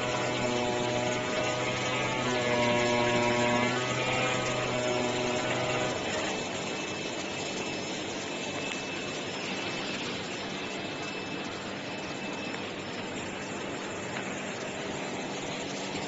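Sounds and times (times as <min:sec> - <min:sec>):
cutting plotter motor whine: 0:00.0 - 0:16.0.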